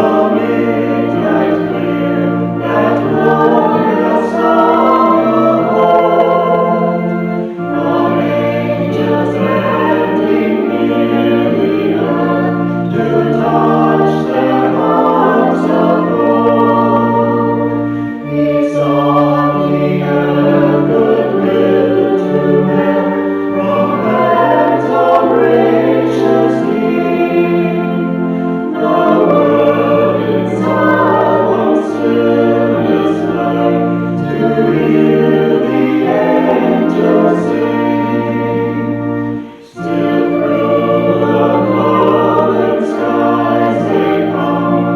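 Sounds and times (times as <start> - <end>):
choir singing a hymn: 0.0 - 44.9
held low accompanying notes: 0.0 - 44.9.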